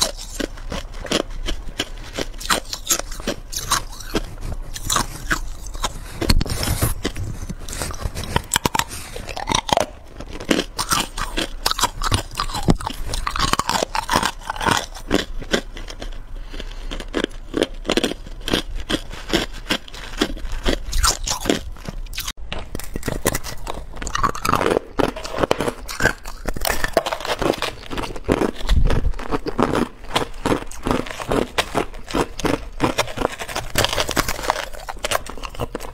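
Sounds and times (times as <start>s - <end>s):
ice being chewed: 0.0s - 35.9s.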